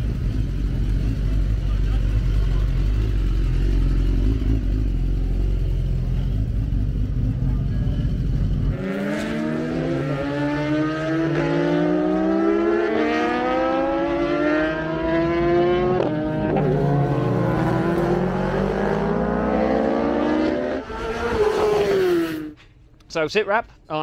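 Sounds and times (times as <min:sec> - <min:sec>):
motorcycle accelerating hard: 0:00.0 - 0:22.6.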